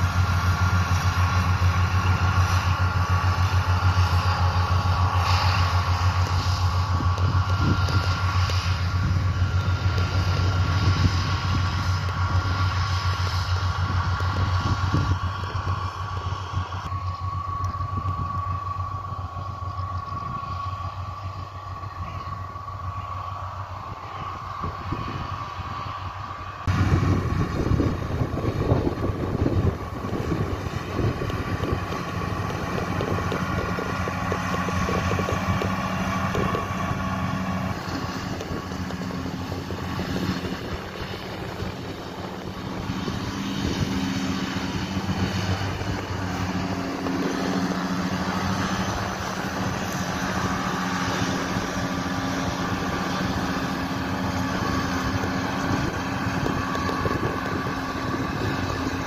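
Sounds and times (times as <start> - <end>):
tractor diesel engine running: 0.0 - 59.0
wind on microphone: 0.0 - 59.0.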